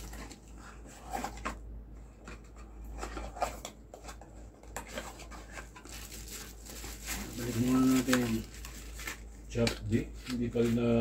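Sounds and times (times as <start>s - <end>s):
packaging being handled: 0.0s - 1.6s, 3.2s - 11.0s.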